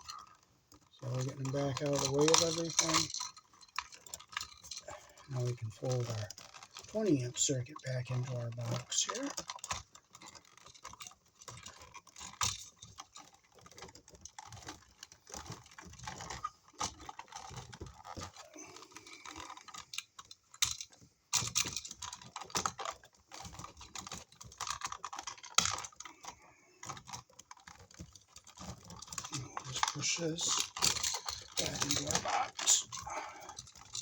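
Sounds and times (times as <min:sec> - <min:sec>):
electrical wires clicking and scraping: 0:00.0 - 0:34.0.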